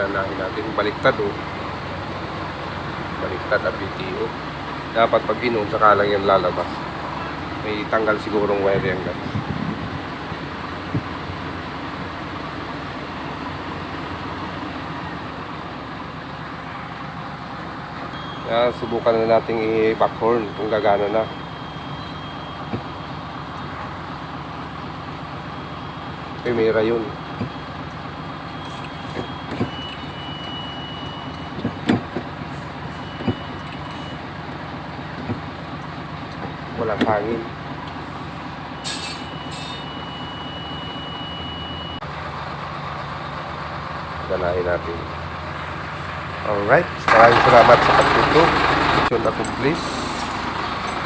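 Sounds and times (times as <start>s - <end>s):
truck engine idling: 0.0s - 51.0s.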